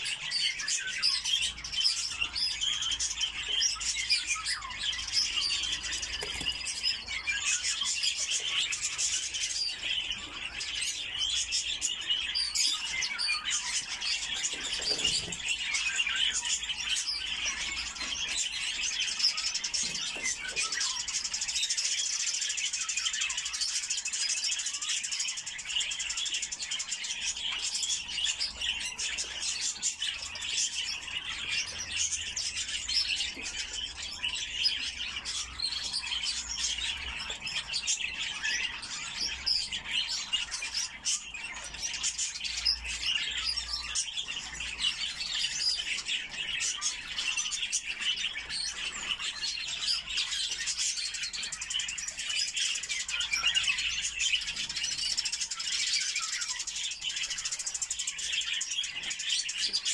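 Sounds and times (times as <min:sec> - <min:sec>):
parrots chirping and twittering: 0:00.0 - 0:59.9.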